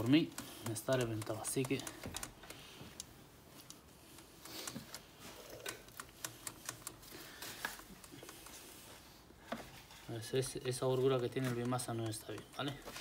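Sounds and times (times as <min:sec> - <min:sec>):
flywheel clicks and light knocks: 0:00.0 - 0:08.6, 0:10.4 - 0:13.0.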